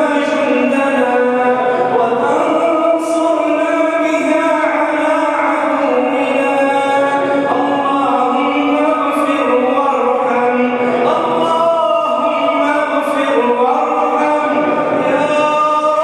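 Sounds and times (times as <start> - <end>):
man chanting over microphone: 0.0 - 16.0.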